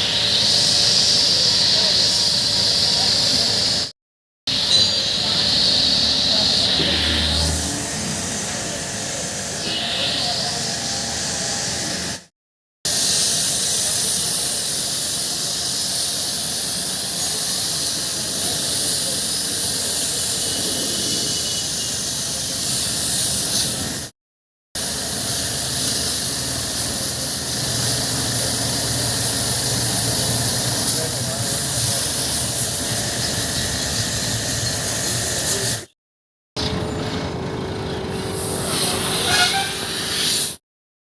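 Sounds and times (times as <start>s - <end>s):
high-pressure spray hissing: 0.0s - 3.9s, 4.5s - 12.3s, 12.9s - 24.1s, 24.8s - 36.0s, 38.1s - 40.6s.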